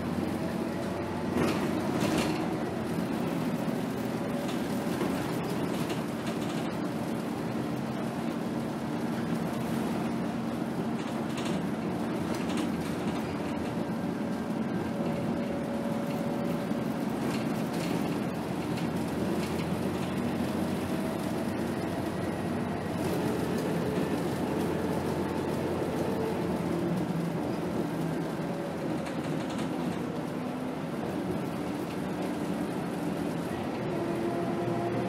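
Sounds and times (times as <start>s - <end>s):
bus engine and road noise: 0.0s - 35.0s.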